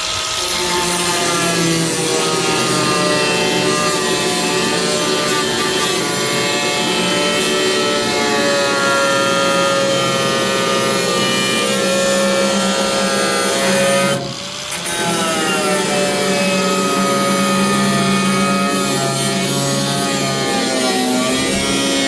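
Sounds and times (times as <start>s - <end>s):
power tool cutting sheet metal: 0.0s - 22.0s.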